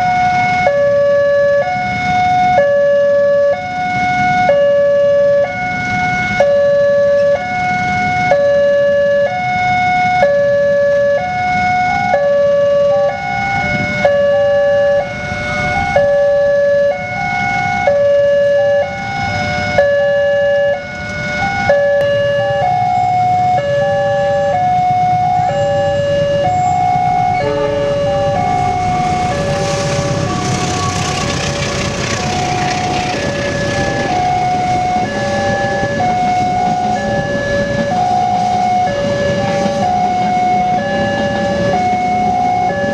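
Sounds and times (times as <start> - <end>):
level crossing two-tone siren: 0.0 - 42.9
road traffic rumble: 0.0 - 42.9
second crossing siren: 0.0 - 42.9.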